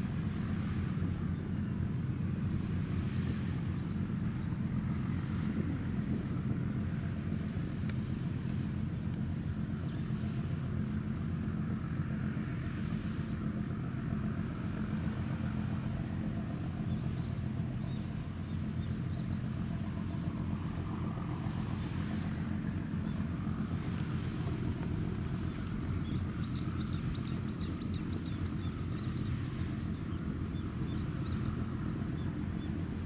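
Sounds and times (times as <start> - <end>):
ship engine drone: 0.0 - 33.0.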